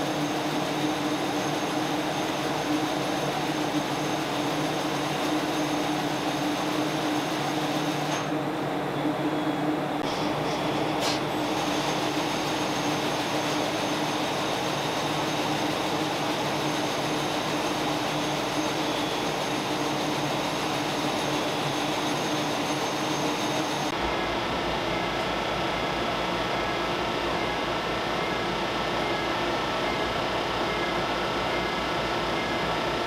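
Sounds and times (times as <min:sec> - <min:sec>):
machinery and ventilation hum: 0:00.0 - 0:33.0.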